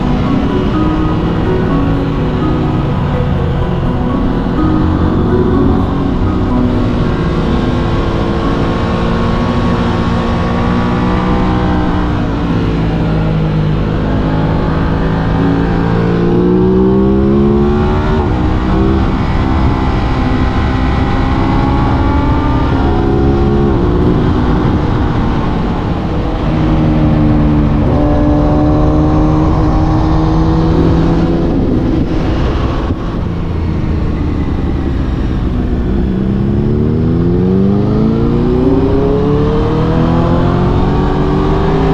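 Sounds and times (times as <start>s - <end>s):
wind noise: 0.0s - 41.9s
motorcycle engine revving: 4.5s - 41.9s.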